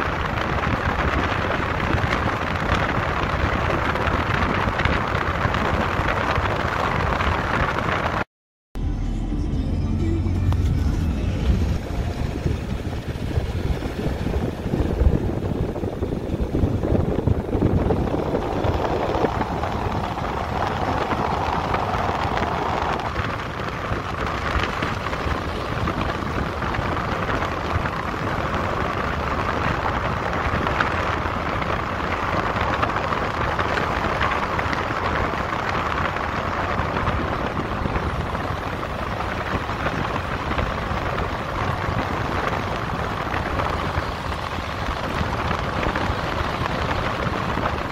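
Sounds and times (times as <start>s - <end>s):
wind on microphone: 0.0s - 8.3s, 10.4s - 47.9s.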